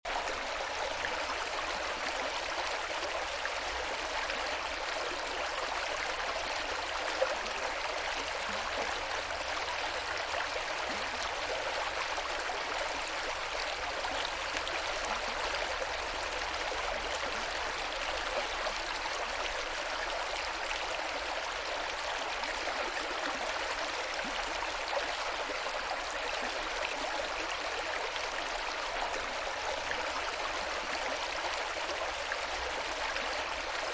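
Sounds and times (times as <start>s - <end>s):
river water flowing: 0.1s - 33.9s.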